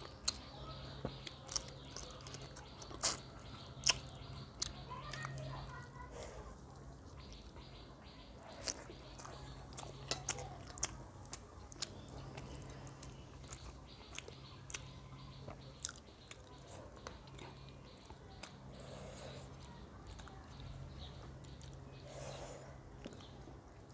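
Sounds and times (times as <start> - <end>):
person chewing food: 0.0 - 5.8, 6.4 - 23.9.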